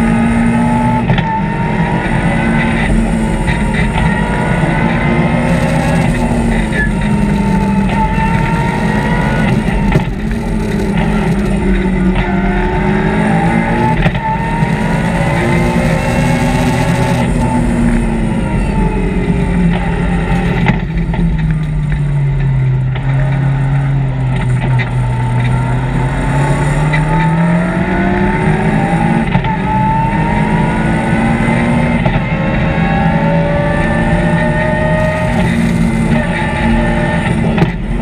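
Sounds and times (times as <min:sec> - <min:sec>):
car engine from inside cabin: 0:00.0 - 0:38.0
road noise: 0:00.0 - 0:38.0.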